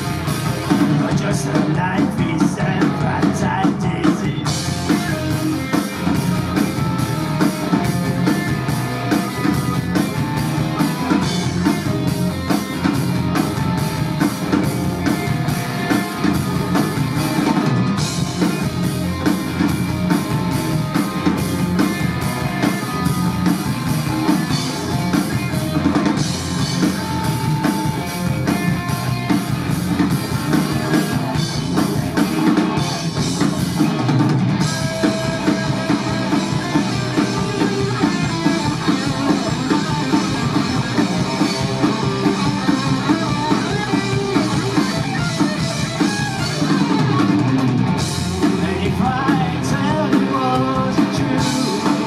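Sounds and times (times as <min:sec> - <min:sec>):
drum kit beat: 0:00.0 - 0:52.0
electric bass: 0:00.0 - 0:52.0
electric guitars: 0:00.0 - 0:52.0.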